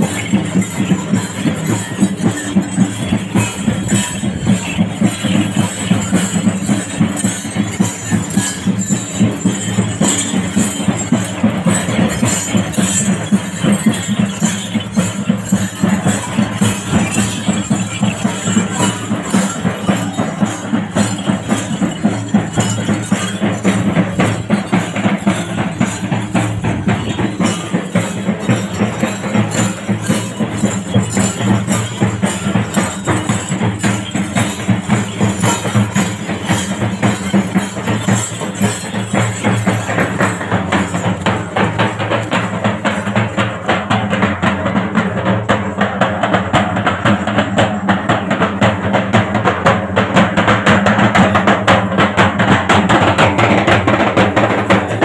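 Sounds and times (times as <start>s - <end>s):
fast dense drumming: 0.0s - 55.0s
jingling percussion: 0.0s - 55.0s.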